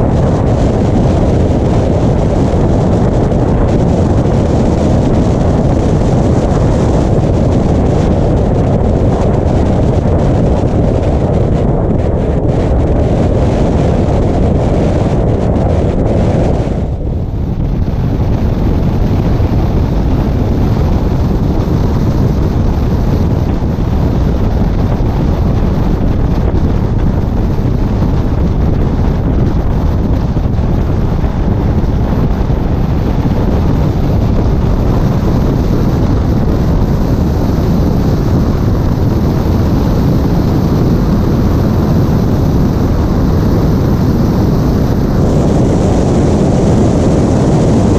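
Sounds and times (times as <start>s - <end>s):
truck engine and tyre noise: 0.0s - 47.9s
wind on microphone: 0.0s - 47.9s.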